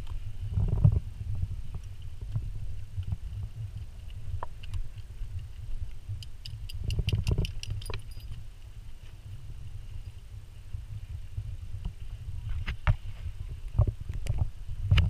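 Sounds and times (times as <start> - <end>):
wind rumble: 0.0 - 15.0.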